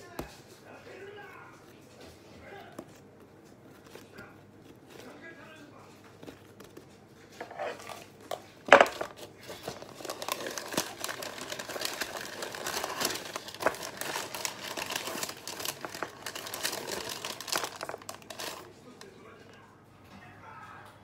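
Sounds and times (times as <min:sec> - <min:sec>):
baking paper crinkling: 0:00.0 - 0:19.7.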